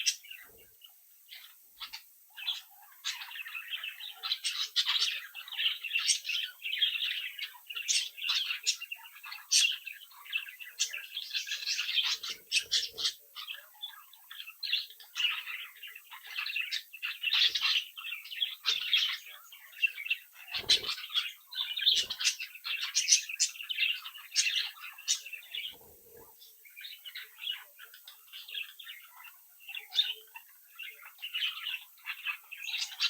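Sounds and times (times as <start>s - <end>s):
budgerigars chattering and warbling: 0.0s - 33.0s.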